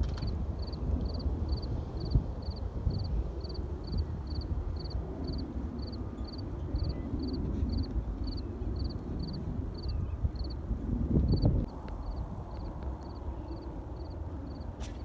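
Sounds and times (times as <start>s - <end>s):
distant jet airliner rumble: 0.0s - 15.0s
wind on microphone: 0.0s - 15.0s
cricket chirping: 0.2s - 10.6s, 11.3s - 14.6s.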